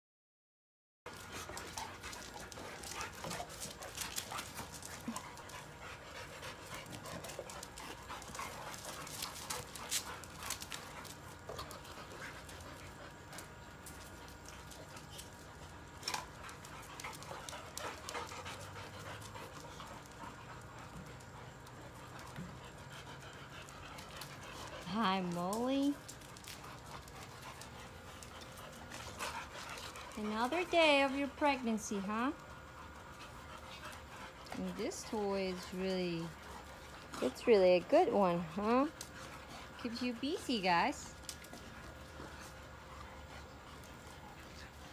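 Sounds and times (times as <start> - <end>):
dogs panting: 1.1 - 44.9.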